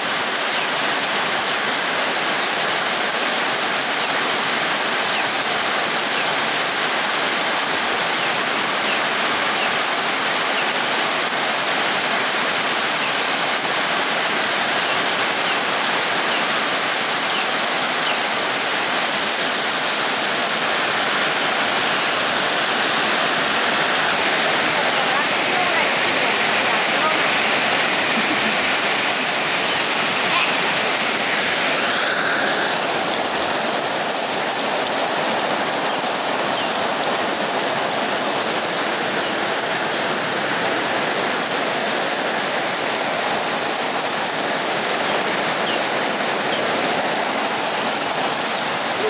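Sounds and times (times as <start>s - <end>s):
heavy rain on leaves: 0.0s - 49.0s.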